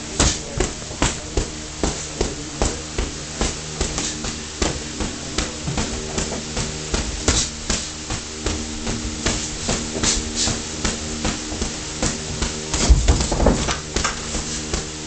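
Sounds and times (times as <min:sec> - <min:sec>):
footwork on ring mat: 0:00.0 - 0:15.0
low hum: 0:00.0 - 0:15.0
gloved strikes slapping and thudding: 0:00.1 - 0:15.0.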